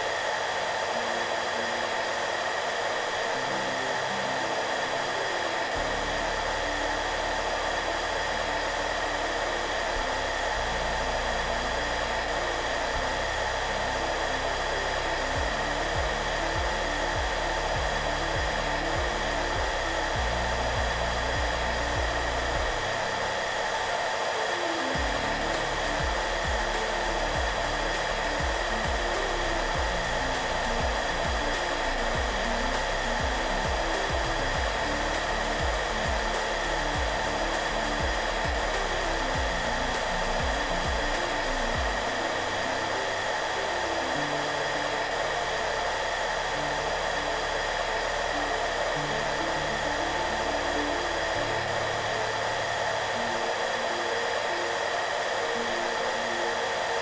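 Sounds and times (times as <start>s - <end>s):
hairdryer blowing: 0.0s - 57.0s
soft background music: 0.0s - 57.0s.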